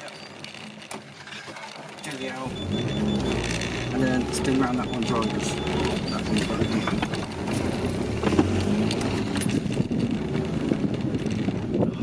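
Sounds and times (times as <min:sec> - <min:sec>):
car engine running: 0:01.8 - 0:12.0.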